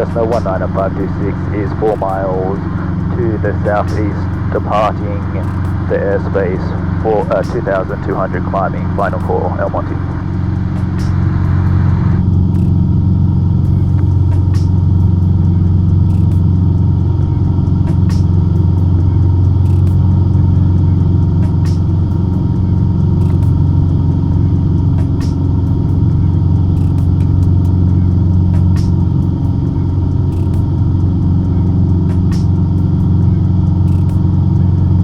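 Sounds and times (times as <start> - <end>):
light aircraft engine droning: 0.0 - 35.0.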